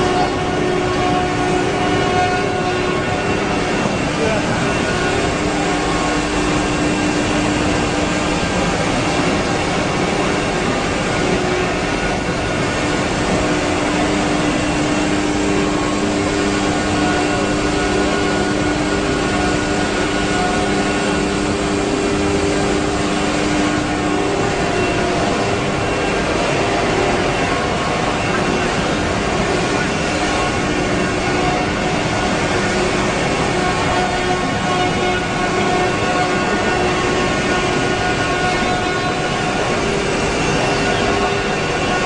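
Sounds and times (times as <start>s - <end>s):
machine hum: 0.0s - 42.0s
wood router machine whine: 0.0s - 42.0s.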